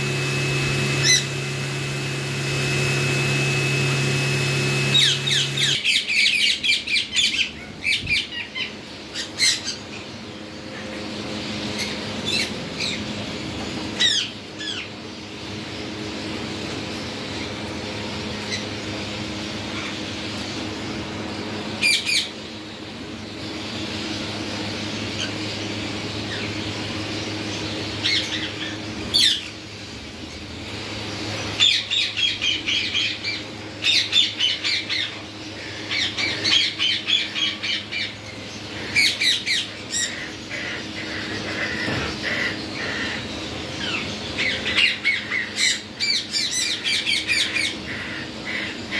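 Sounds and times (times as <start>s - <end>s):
parakeets squawking: 0.0s - 22.5s, 23.4s - 29.7s, 31.1s - 48.9s
steady hum: 0.0s - 48.9s.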